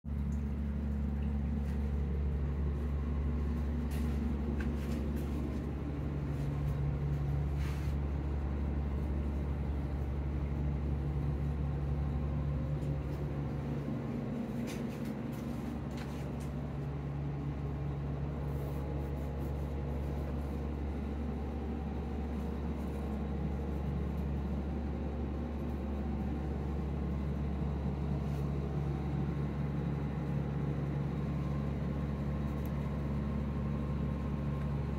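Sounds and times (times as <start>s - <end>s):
low machine hum: 0.1s - 34.9s.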